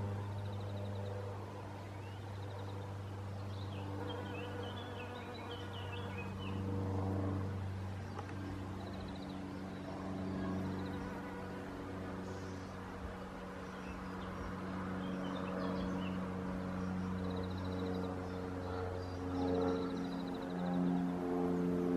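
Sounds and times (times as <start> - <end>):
small birds chirping: 0.0 - 7.3, 7.9 - 21.3
low droning hum: 0.0 - 21.9.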